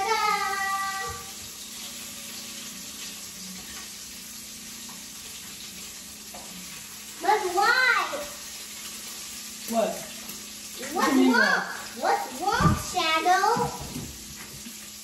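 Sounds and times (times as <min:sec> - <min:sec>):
bacon sizzling in a pan: 0:00.0 - 0:15.0.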